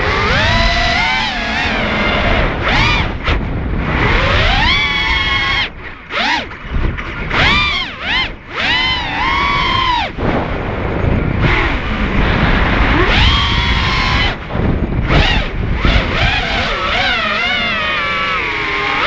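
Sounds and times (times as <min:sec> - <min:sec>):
drone motors whining: 0:00.0 - 0:19.0
rushing wind noise: 0:00.0 - 0:19.0.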